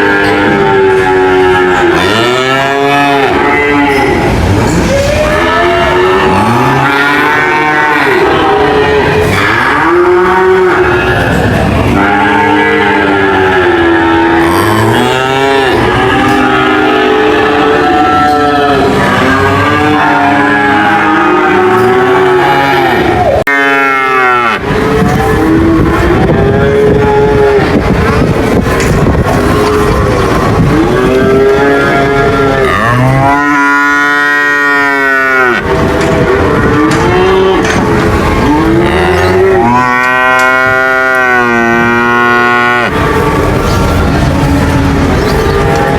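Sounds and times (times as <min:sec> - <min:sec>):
background noise: 0:00.0 - 0:45.9
cattle mooing: 0:00.0 - 0:45.9.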